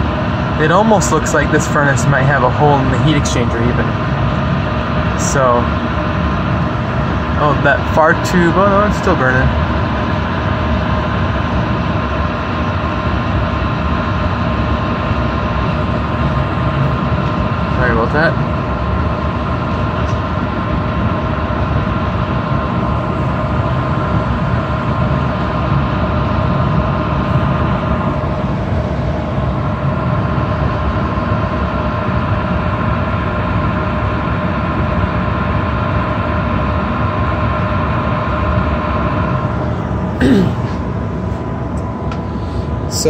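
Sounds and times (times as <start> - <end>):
blower whining tones: 0.0 - 43.0
furnace burners rumbling: 0.0 - 43.0.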